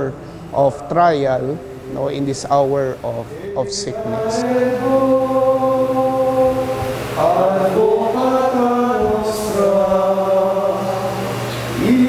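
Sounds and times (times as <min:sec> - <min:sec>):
chanted singing: 0:00.0 - 0:12.0.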